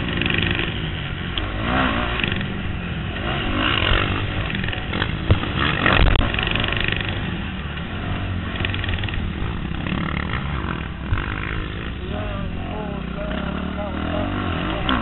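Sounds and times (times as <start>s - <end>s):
motorbike engine revving: 0.0s - 15.0s
rough rush of noise: 0.0s - 15.0s.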